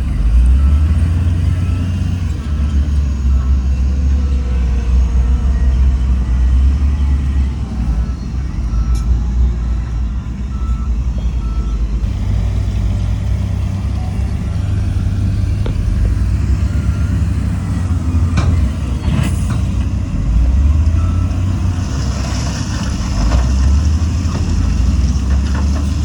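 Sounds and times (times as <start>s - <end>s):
reversing alarm beeps: 0.0s - 22.7s
heavy diesel machinery engine: 0.0s - 26.0s.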